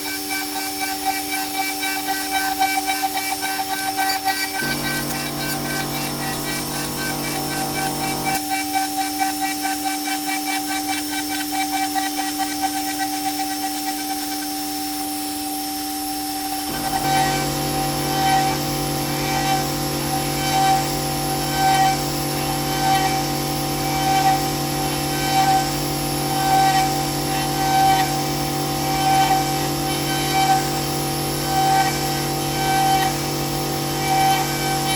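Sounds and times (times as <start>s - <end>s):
router spindle whining: 0.0s - 34.9s.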